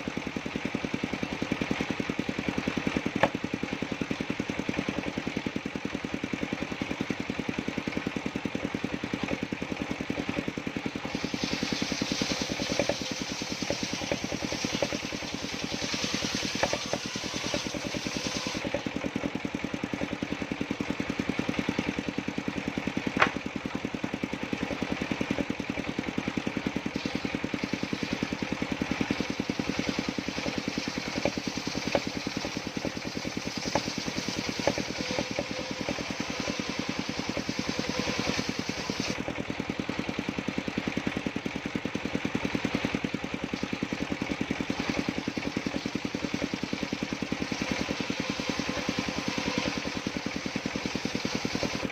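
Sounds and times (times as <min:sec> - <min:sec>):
engine running with even firing beat: 0:00.0 - 0:51.9.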